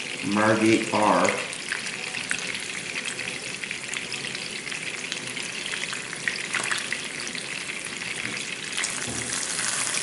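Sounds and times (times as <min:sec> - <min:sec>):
fish sizzling in a skillet: 0:00.0 - 0:10.0.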